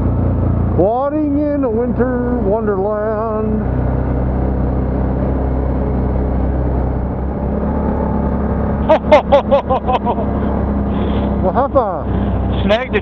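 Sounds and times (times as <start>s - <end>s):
atv engine running steadily: 0.0s - 13.0s.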